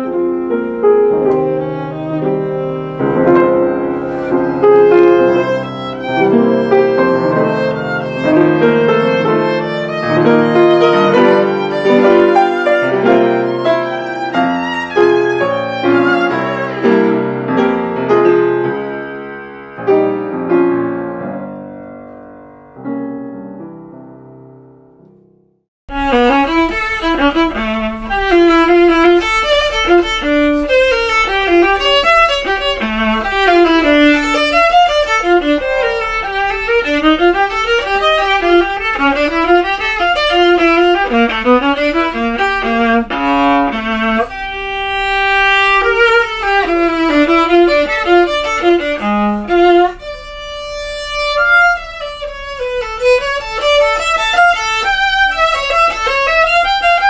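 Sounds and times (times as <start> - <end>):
bowed viola: 0.0 - 20.7, 25.9 - 57.0.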